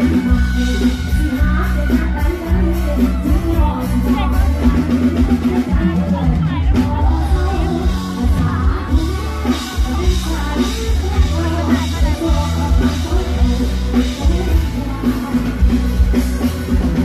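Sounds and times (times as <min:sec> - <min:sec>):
band with bass and drums: 0:00.0 - 0:17.0
woman singing into microphone: 0:00.0 - 0:17.0.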